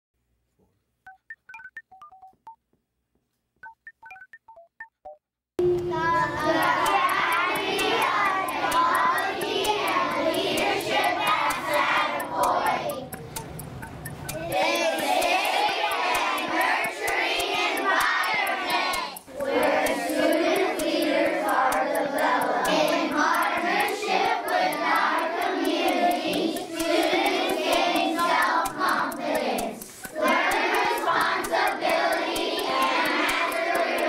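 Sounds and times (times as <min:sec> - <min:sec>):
children reciting in unison: 0:05.6 - 0:13.4, 0:14.2 - 0:34.0.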